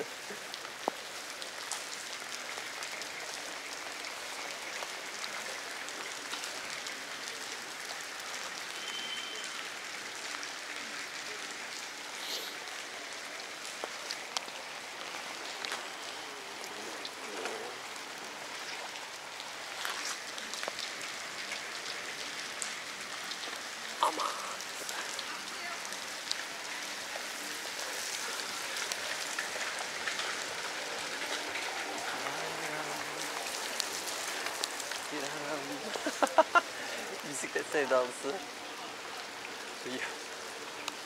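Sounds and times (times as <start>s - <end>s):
sharp ticks of raindrops: 0.0s - 41.0s
steady rain hiss: 0.0s - 41.0s.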